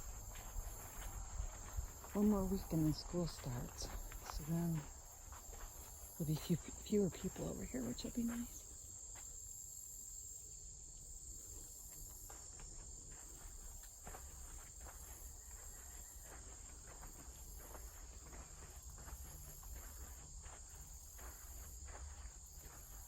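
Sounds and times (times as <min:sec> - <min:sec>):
footsteps on leafy path: 0:00.0 - 0:09.4, 0:11.9 - 0:23.0
high-pitched insect chorus: 0:00.0 - 0:23.0.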